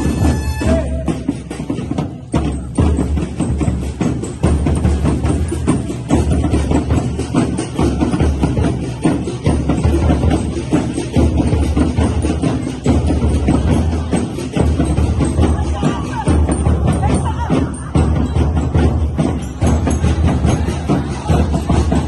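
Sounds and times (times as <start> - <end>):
drums with tambourine jingles: 0.0 - 22.0.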